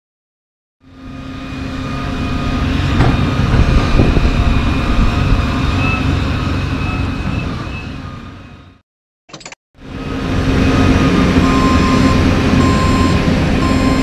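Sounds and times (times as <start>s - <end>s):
excavator diesel engine running: 0.8s - 8.8s, 9.8s - 14.0s.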